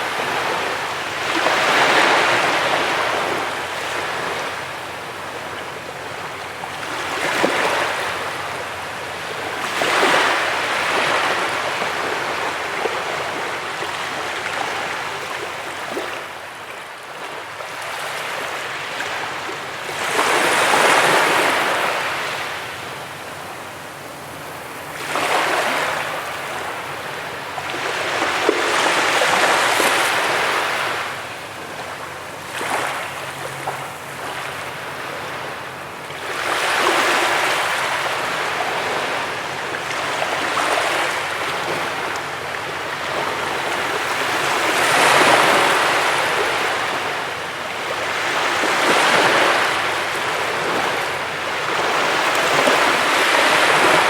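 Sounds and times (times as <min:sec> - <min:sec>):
waves breaking on a beach: 0:00.0 - 0:54.0.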